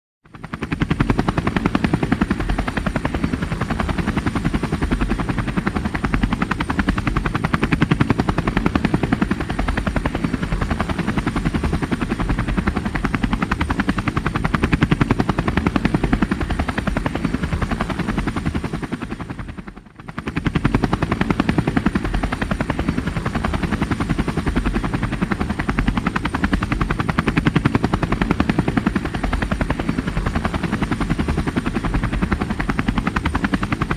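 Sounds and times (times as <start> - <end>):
helicopter rotor chopping: 0.3 - 33.9.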